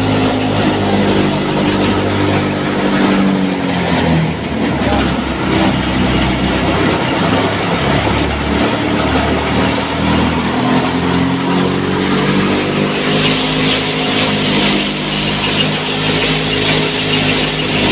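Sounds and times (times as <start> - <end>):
thresher machine drone: 0.0 - 17.9.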